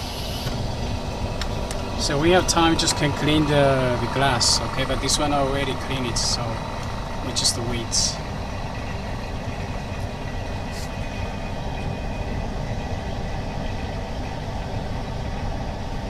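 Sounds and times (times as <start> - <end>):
laminating machine pump running: 0.0 - 16.0.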